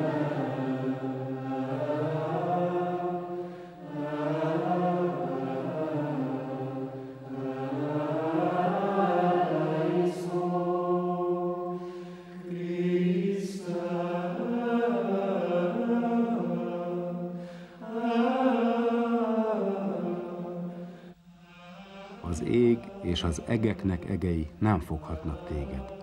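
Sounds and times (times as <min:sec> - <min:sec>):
person singing slow chant: 0:00.0 - 0:26.0.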